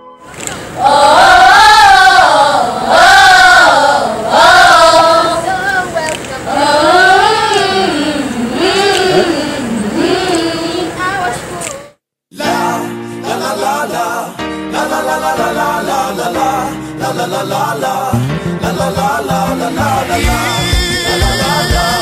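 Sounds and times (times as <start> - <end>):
girls choir singing: 0.7 - 11.6, 12.4 - 22.0.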